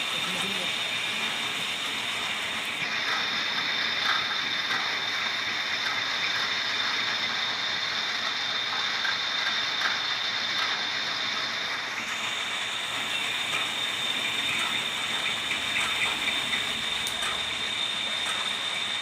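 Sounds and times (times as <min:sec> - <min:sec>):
metal lathe whining: 0:00.0 - 0:19.0.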